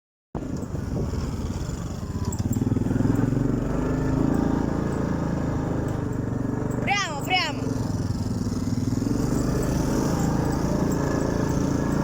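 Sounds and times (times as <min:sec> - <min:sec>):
motorcycle engine running: 0:00.4 - 0:12.0.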